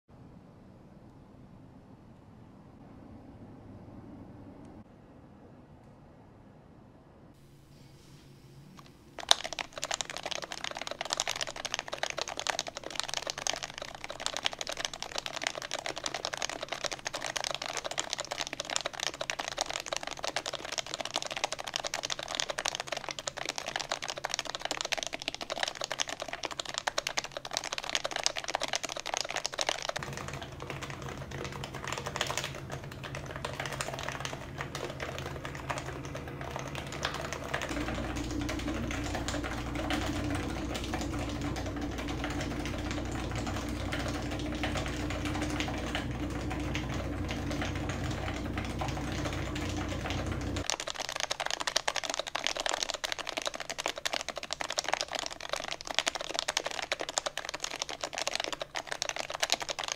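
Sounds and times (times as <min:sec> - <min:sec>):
fast keyboard typing: 0:08.8 - 0:59.9.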